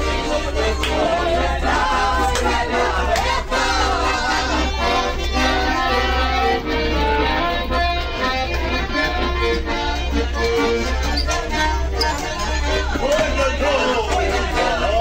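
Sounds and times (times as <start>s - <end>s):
accordion playing lively tune: 0.0s - 15.0s.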